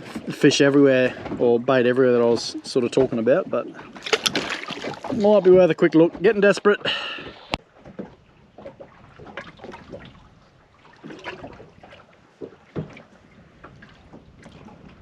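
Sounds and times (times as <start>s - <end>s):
clicks and knocks on boat: 0.0s - 6.5s, 7.2s - 10.3s, 11.0s - 15.0s
water noise: 0.0s - 15.0s.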